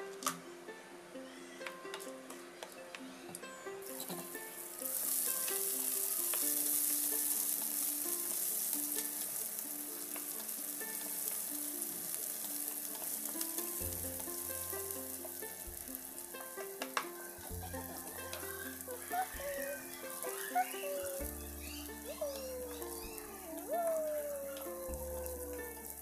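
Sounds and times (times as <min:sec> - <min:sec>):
background music: 0:00.0 - 0:26.0
oil sizzling in a pan: 0:03.8 - 0:26.0.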